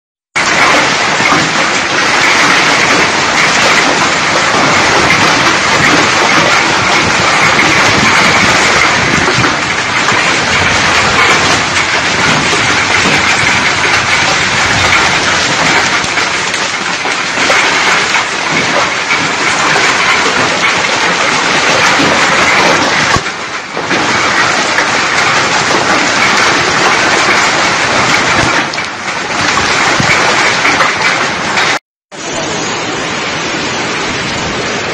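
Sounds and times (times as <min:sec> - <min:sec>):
heavy hail clattering: 0:00.3 - 0:34.9.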